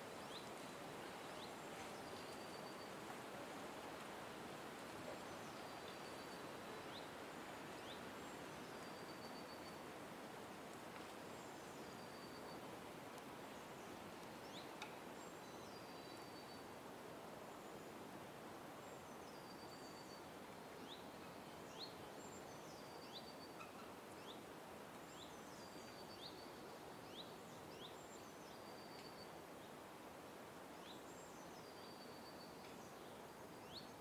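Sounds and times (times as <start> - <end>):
background hiss: 0.0 - 34.0.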